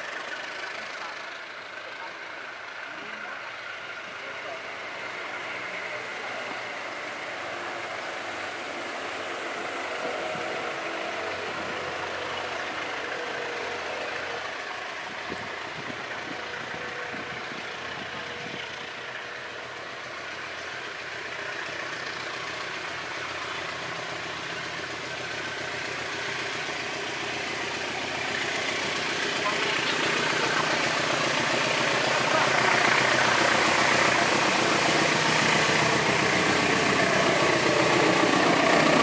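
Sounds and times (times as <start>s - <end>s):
locomotive engine running: 0.0s - 39.0s.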